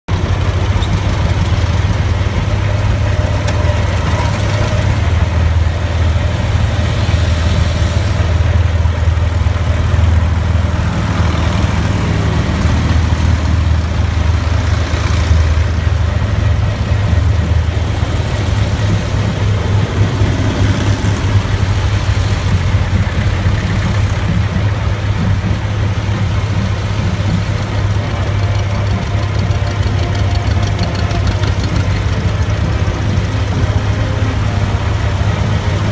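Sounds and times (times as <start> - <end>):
tractor engines running: 0.0 - 35.9.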